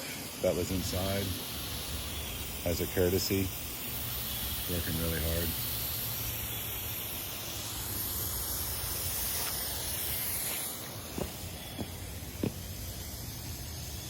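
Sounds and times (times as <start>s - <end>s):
pressure washer spray hissing: 0.0s - 14.0s.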